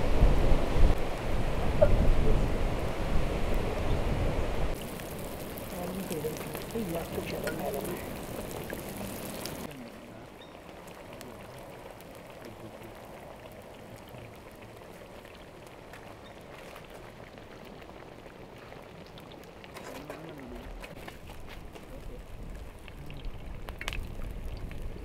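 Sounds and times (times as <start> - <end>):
food deep-frying in hot oil: 4.7 - 25.0.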